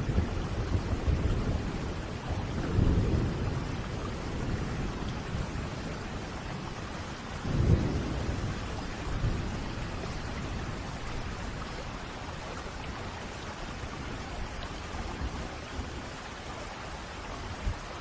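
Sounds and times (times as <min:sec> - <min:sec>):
thunder rumbling: 0:00.0 - 0:16.2
steady rain: 0:00.0 - 0:18.0.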